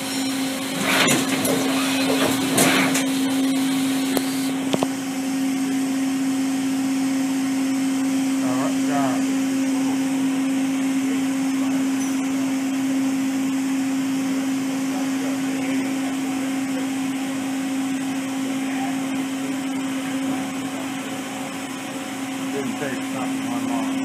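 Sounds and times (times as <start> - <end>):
machine humming with steady tone: 0.0 - 24.0.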